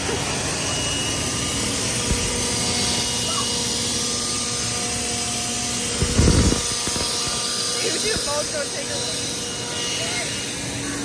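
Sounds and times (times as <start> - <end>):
faint thin whine: 0.4 - 10.9.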